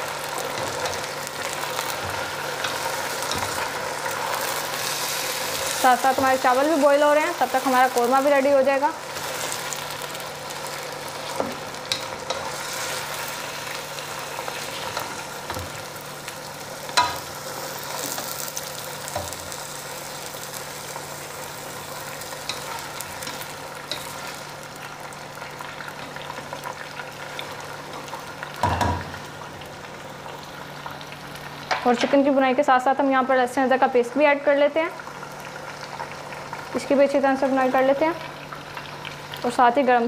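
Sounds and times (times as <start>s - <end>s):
chicken sizzling in hot oil: 0.0s - 33.0s, 33.6s - 40.0s.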